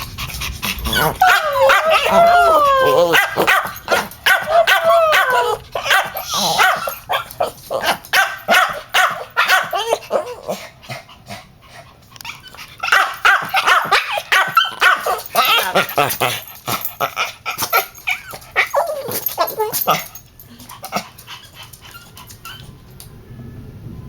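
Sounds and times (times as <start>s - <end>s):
dogs barking and yelping: 0.0s - 23.1s
dogs whining: 0.7s - 10.7s, 12.3s - 23.0s.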